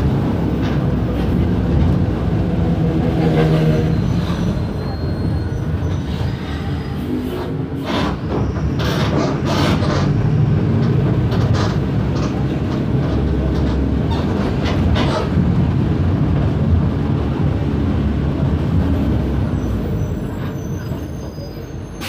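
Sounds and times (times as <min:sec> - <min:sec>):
bus body rattling and knocking: 0:00.0 - 0:06.3, 0:07.3 - 0:21.1
bus diesel engine running: 0:00.0 - 0:22.0.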